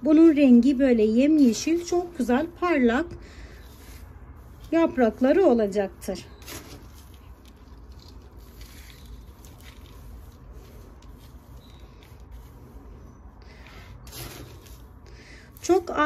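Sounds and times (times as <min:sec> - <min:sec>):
soil rustling and scraping: 0:00.0 - 0:16.0.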